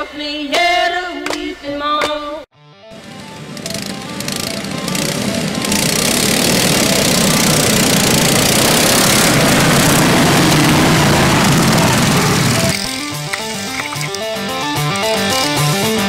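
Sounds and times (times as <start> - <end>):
lawn mower engines running: 2.9 - 16.0.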